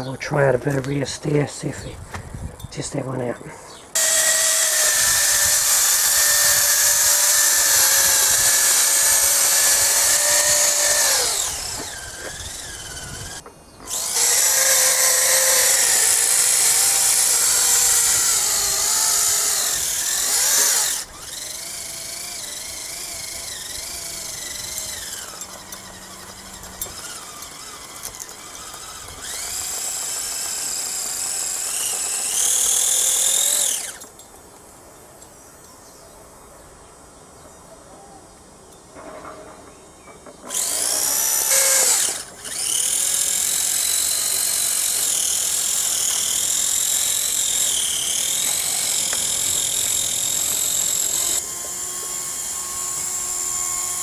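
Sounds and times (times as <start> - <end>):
electric motor whining: 4.0 - 34.1, 40.4 - 54.0.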